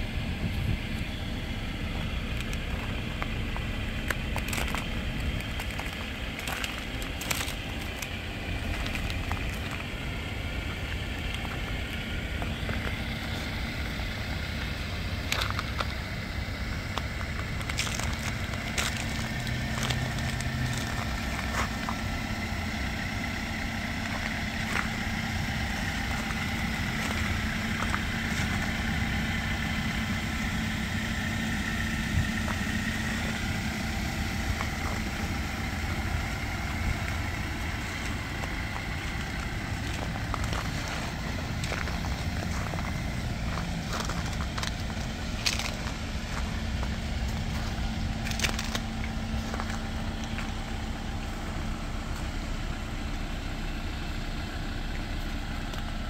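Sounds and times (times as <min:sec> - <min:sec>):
car engine idling: 0:00.0 - 0:56.0
footsteps crunching in slush: 0:01.6 - 0:56.0.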